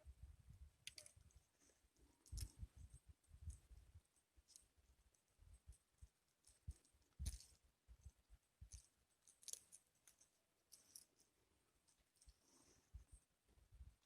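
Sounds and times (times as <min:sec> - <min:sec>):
faint irregular clicks: 0:00.5 - 0:13.3.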